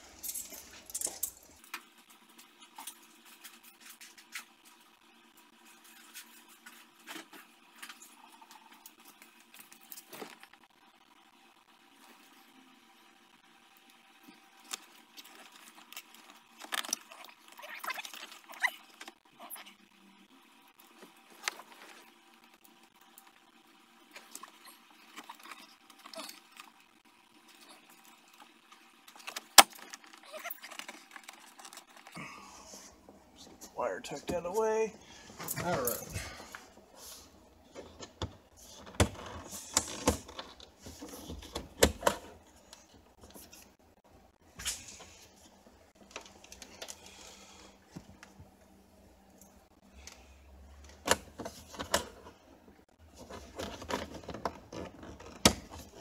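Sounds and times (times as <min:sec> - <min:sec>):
faint clicks and rustles: 0:00.0 - 0:56.0.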